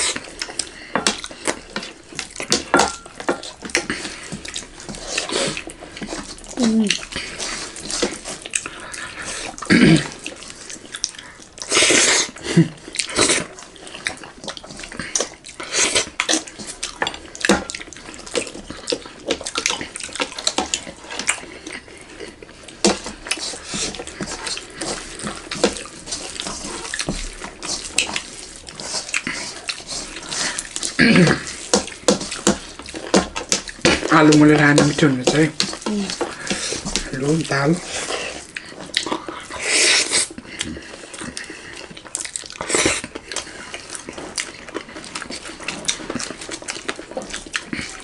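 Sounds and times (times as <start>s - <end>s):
wet chewing and lip smacking: 0.0s - 48.0s.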